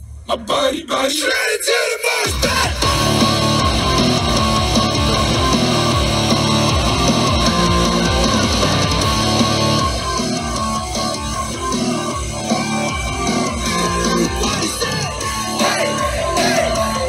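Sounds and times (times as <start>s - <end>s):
loud hardstyle music through speaker: 1.3s - 17.0s.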